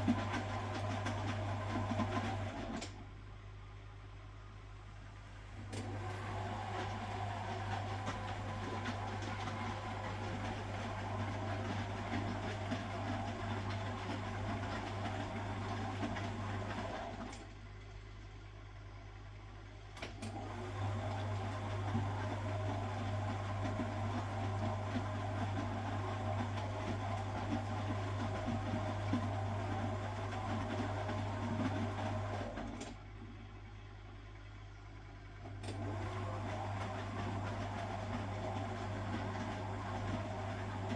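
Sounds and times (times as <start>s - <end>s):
washing machine motor turning drum: 0.0s - 3.0s, 5.5s - 17.6s, 20.0s - 33.1s, 35.4s - 40.9s.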